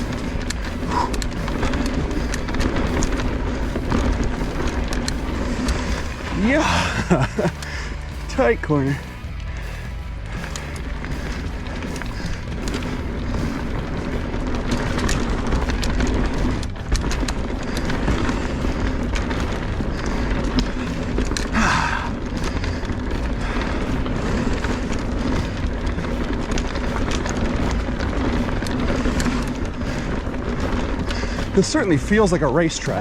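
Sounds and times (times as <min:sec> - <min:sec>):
bike chain and frame clicks: 0:00.0 - 0:08.2, 0:09.3 - 0:33.0
bike tyre roar on dirt: 0:00.0 - 0:33.0
wind rush on microphone: 0:00.0 - 0:33.0.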